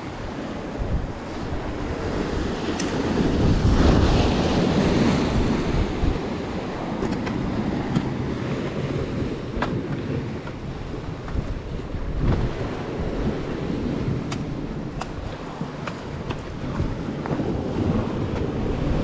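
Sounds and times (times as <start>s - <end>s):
sea waves washing on shore: 0.0s - 19.0s
wind buffeting microphone: 0.0s - 19.0s.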